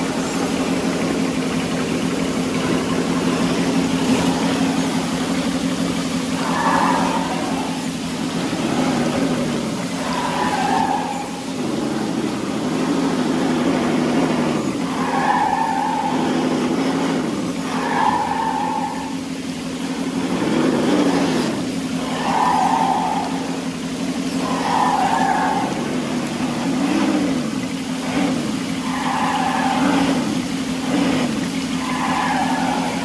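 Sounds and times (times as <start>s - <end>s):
flowing water rushing: 0.0s - 33.0s.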